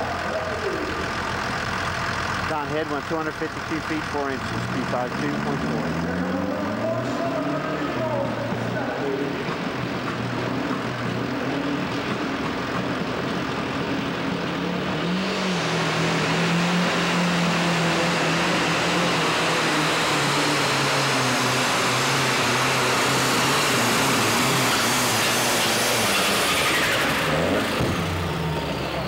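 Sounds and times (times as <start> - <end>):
pulling tractor engine roaring: 0.0 - 29.0.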